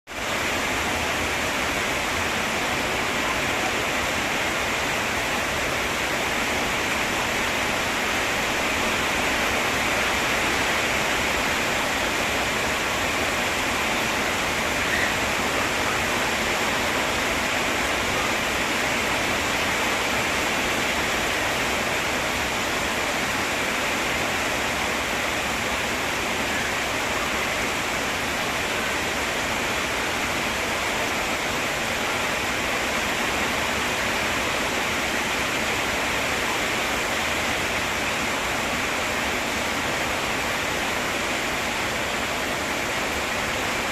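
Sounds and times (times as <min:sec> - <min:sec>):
steady rainfall: 0:00.0 - 0:43.9.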